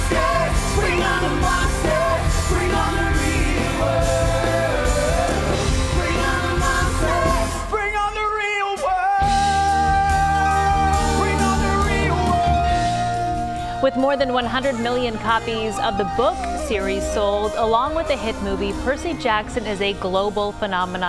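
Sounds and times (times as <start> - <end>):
rock music with singer: 0.0 - 21.0.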